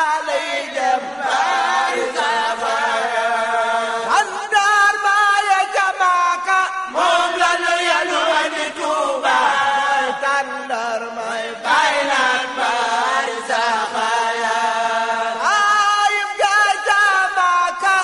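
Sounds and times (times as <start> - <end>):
voices singing a religious chant: 0.0 - 18.0.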